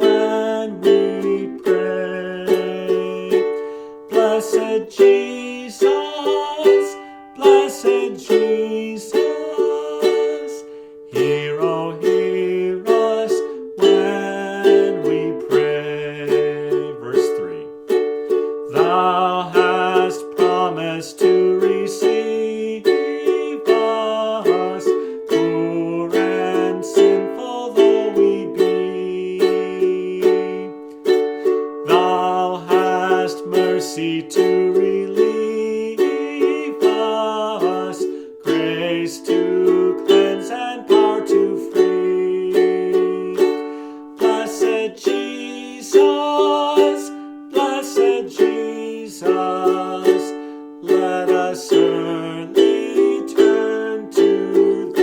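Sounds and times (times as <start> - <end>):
ukulele strumming: 0.0 - 55.0.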